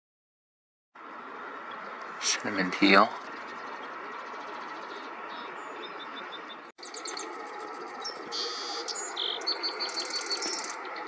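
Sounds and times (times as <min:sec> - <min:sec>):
songbirds singing: 0:01.0 - 0:11.0.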